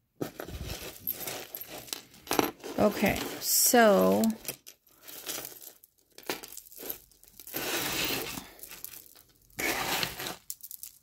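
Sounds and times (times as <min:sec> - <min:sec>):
jewelry rustling and clinking: 0:00.2 - 0:11.0.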